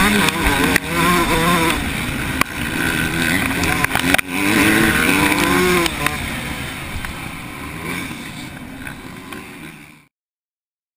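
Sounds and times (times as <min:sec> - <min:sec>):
motocross bike engine: 0:00.0 - 0:10.1.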